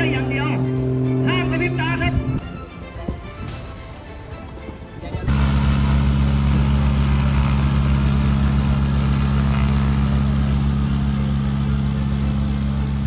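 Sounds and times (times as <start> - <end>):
light aircraft engine and propeller: 0.0 - 13.0.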